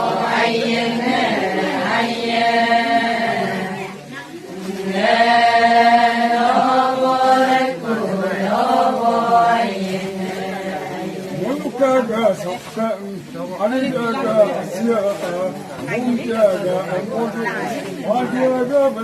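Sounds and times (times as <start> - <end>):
voices chanting a song: 0.0 - 19.0.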